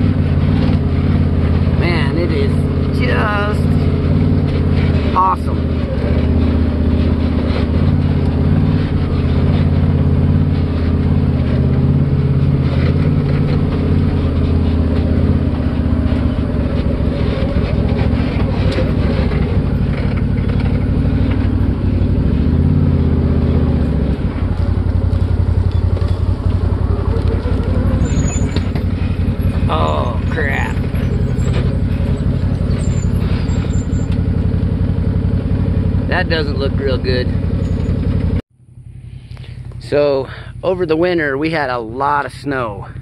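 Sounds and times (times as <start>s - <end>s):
off-road vehicle engine running: 0.0s - 43.0s.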